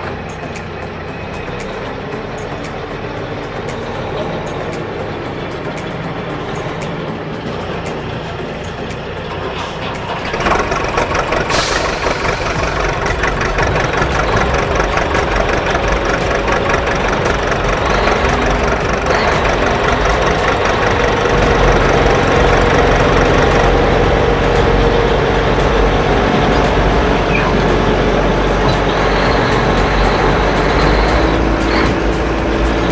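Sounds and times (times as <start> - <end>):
backhoe loader engine running: 0.0 - 32.9.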